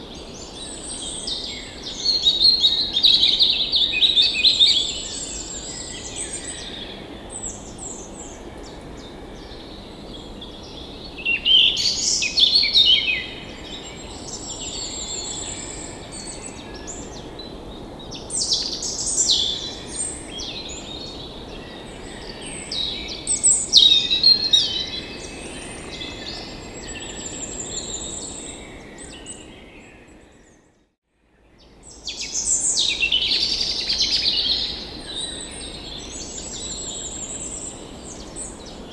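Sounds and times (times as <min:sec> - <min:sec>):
birds singing and chirping: 0:00.2 - 0:30.6, 0:31.8 - 0:38.9.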